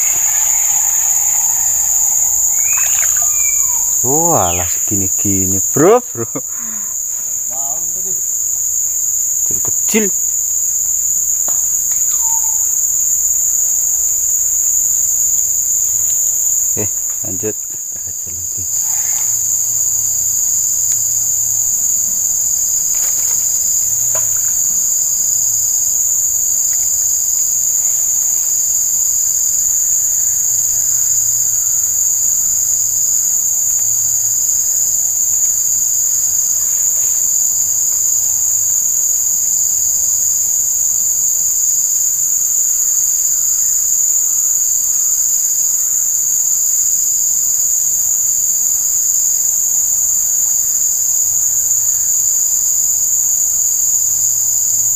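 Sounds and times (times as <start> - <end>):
insects chorus drone: 0.0 - 54.9.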